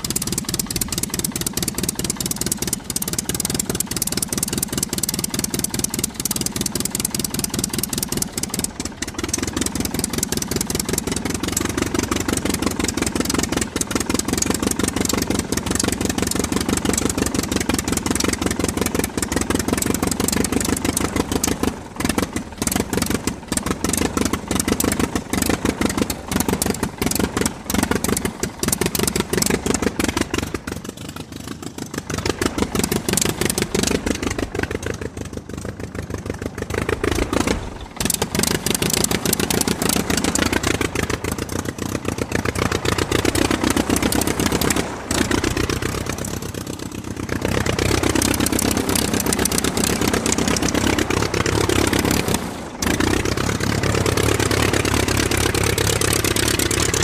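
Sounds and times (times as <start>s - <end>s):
aircraft engine pulsing: 0.0s - 57.0s.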